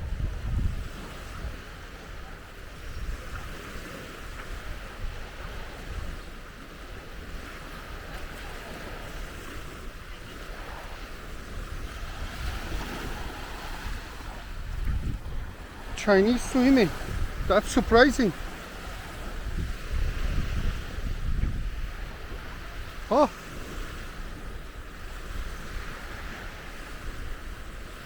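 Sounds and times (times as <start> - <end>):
sea waves washing onto beach: 0.0 - 28.0
wind buffeting microphone: 0.0 - 28.0.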